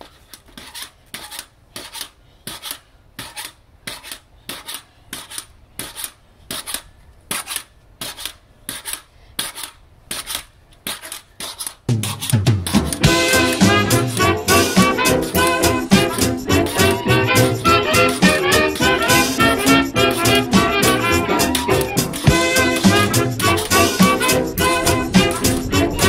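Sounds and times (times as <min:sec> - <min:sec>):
pogo stick bouncing on stone: 0:00.0 - 0:26.0.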